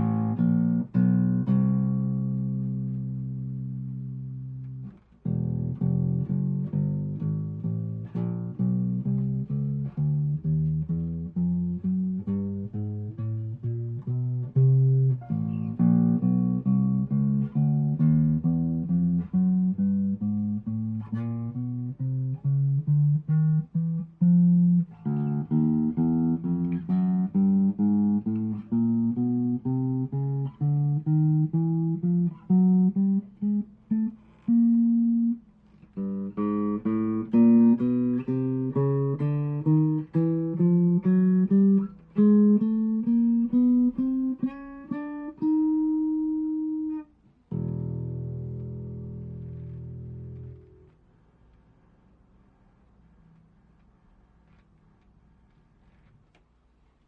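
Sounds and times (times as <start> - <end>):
plucked electric bass notes: 0.0 - 50.9.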